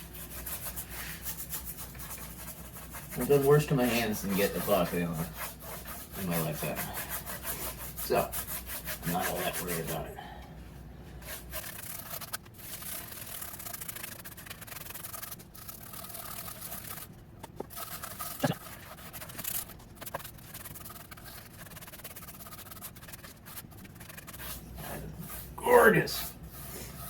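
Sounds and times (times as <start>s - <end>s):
brush scraping on wood: 0.0s - 10.1s, 11.2s - 27.0s.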